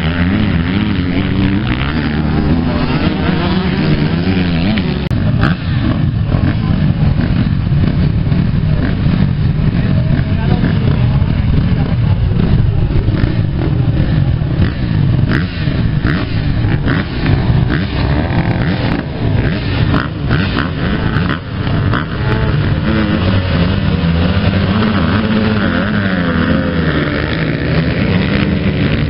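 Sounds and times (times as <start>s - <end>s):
motorcycles revving and accelerating: 0.0s - 29.0s.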